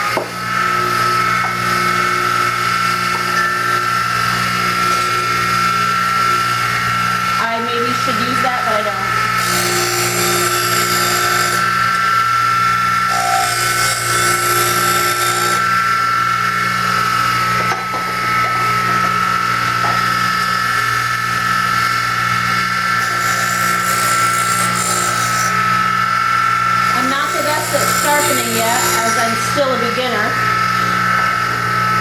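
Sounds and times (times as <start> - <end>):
bench grinder motor whine: 0.0 - 32.0.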